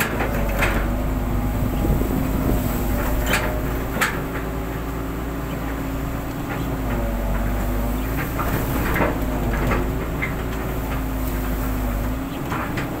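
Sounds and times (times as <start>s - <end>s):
excavator engine and hydraulic hum: 0.0s - 13.0s.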